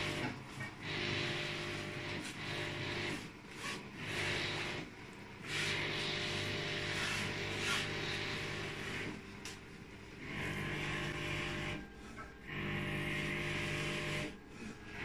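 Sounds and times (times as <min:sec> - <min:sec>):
vacuum cleaner motor hum: 0:00.0 - 0:15.0.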